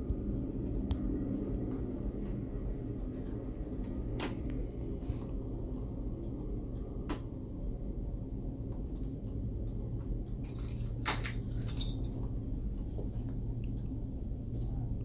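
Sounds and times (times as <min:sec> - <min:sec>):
low room tone hum: 0:00.0 - 0:15.0.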